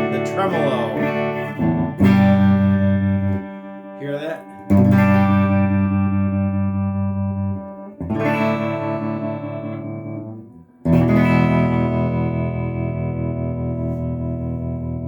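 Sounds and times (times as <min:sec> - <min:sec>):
electric guitar chords with tremolo: 0:00.0 - 0:15.0.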